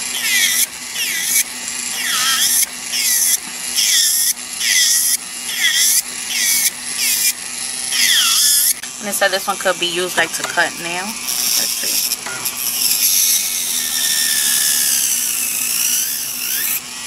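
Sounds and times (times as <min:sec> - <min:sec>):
electric nail drill grinding: 0:00.0 - 0:17.0.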